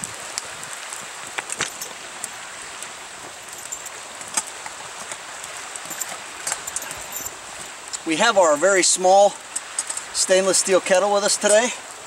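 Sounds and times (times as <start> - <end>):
creek flowing over rocks: 0.0 - 12.0
wood fire crackling: 0.0 - 12.0.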